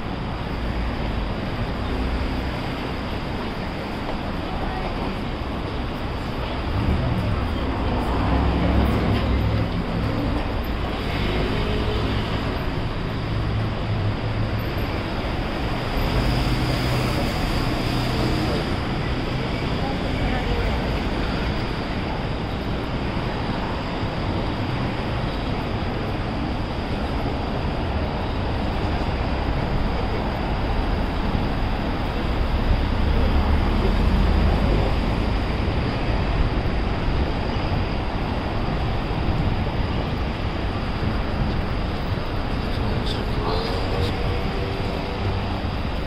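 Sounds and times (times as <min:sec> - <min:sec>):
street traffic noise: 0:00.0 - 0:46.0.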